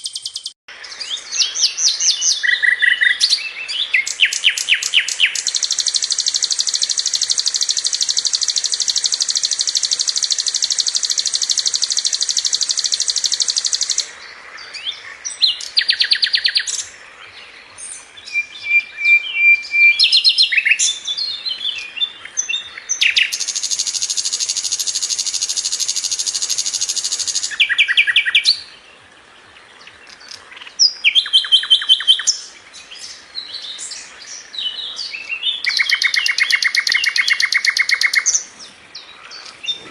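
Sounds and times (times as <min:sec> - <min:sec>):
flycatcher singing trills: 0:00.0 - 0:28.9, 0:29.8 - 0:39.9.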